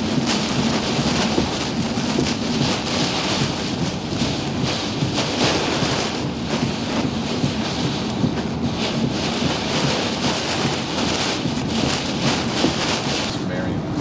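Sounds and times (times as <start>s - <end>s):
hurricane-force wind gusts: 0.0s - 14.0s
wind buffeting microphone: 0.0s - 14.0s.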